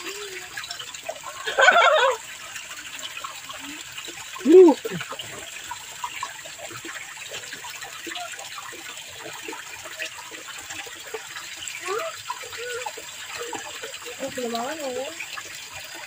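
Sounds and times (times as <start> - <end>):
water rushing in channel: 0.0 - 16.0.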